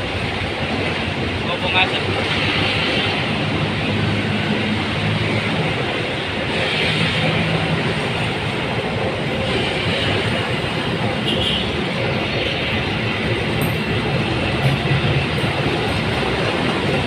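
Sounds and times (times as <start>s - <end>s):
locomotive engine hum: 0.0s - 17.0s
train passing: 0.0s - 17.0s.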